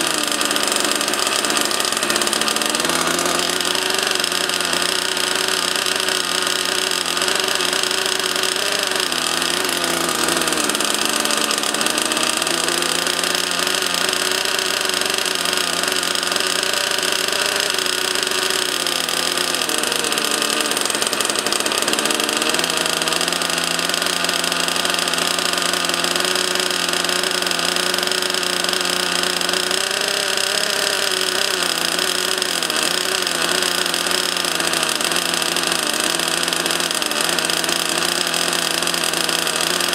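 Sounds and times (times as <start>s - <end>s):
model jet turbine whining: 0.0s - 39.9s.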